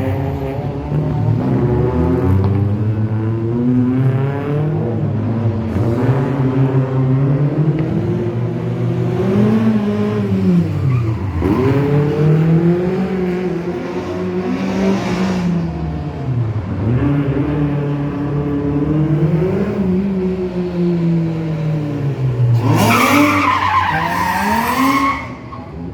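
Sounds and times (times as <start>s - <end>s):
rally car engine revving: 0.0s - 25.9s.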